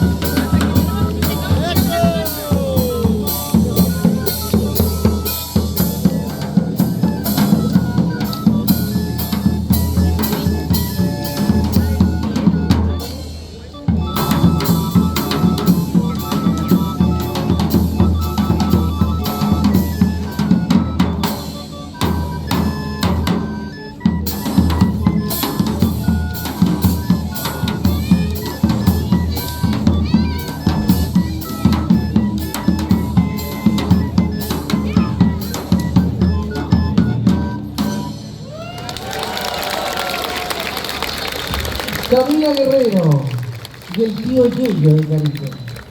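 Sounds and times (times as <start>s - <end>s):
held melodic notes: 0.0s - 38.5s.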